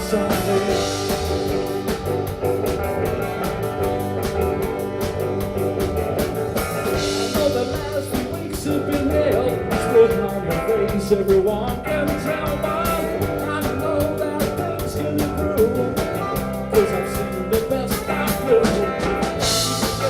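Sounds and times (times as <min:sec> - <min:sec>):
bass guitar: 0:00.0 - 0:20.0
drums keeping a steady beat: 0:00.0 - 0:20.0
electric guitar: 0:00.0 - 0:20.0.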